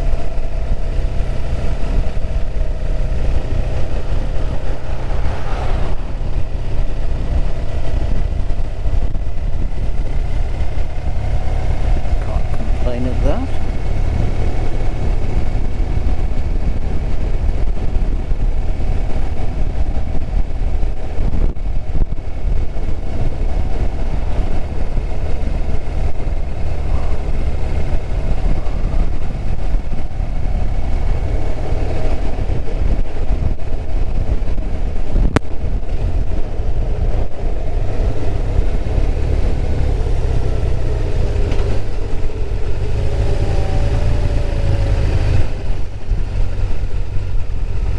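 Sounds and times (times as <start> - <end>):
motorcycle engine running: 0.0 - 47.9
wind rush on microphone: 0.0 - 47.9.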